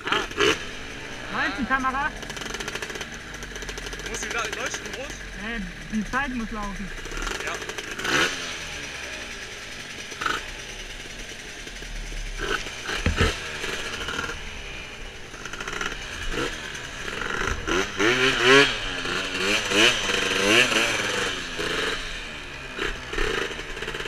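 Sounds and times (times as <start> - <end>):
scooter engines revving: 0.0 - 24.0.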